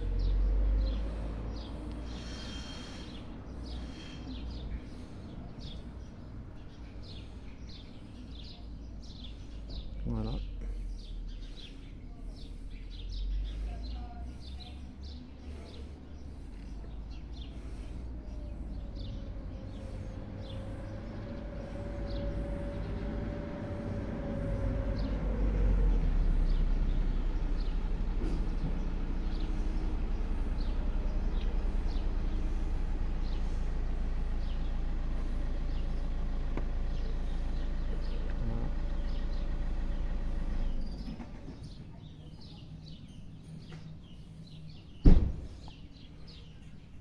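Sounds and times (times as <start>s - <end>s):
low steady rumble: 0.0s - 41.3s
birds chirping: 0.0s - 47.0s.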